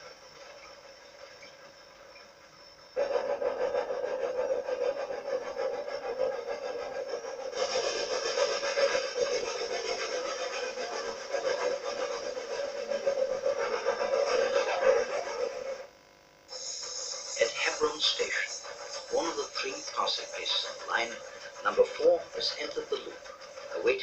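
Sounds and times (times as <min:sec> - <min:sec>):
steam locomotive working uphill: 0:00.0 - 0:24.0.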